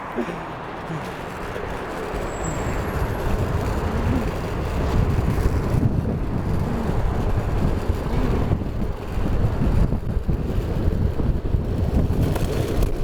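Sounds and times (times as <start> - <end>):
vehicle wheels rumbling: 0.0 - 13.0
wind rushing over microphone: 2.4 - 13.0.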